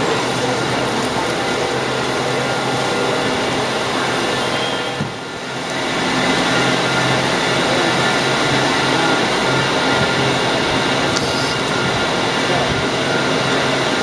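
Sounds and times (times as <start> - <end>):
subway car humming: 0.0 - 14.0.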